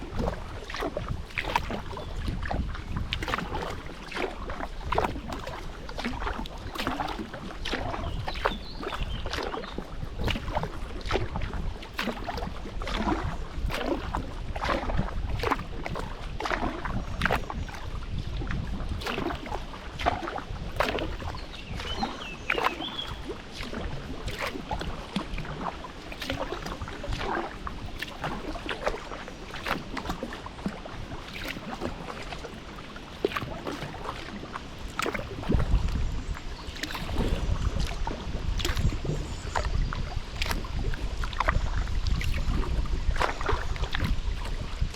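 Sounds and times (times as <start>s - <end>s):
paddle splashing in water: 0.0s - 44.9s
wind rumble on microphone: 0.0s - 44.9s.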